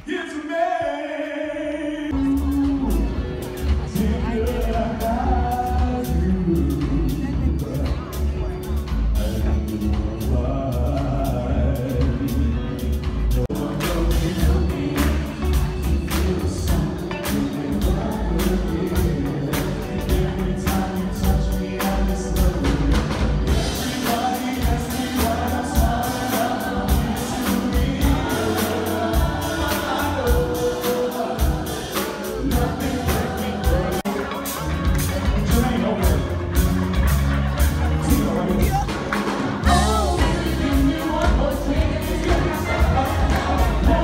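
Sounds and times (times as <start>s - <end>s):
backing singers: 0.0s - 44.0s
man singing lead: 0.0s - 44.0s
live band playing: 2.1s - 44.0s.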